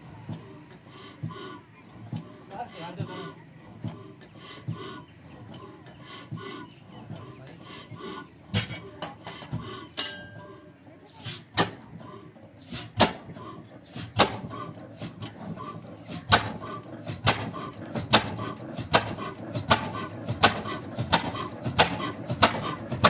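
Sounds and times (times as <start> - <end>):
diesel engine firing beats: 0.0 - 23.0.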